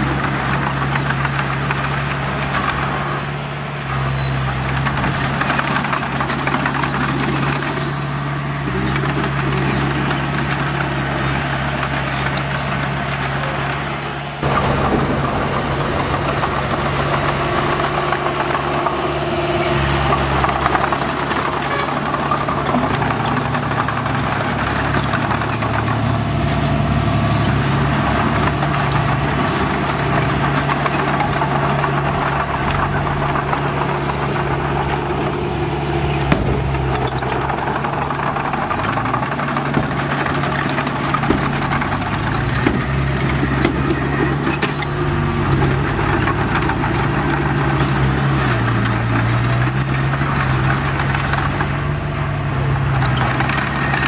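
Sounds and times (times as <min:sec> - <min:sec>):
heavy diesel engine clattering: 0:00.0 - 0:54.0.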